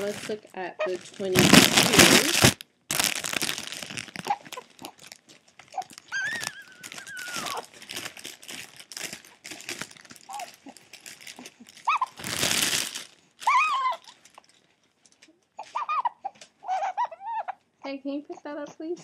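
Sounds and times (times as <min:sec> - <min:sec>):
plastic packaging crinkling: 0:00.0 - 0:15.3.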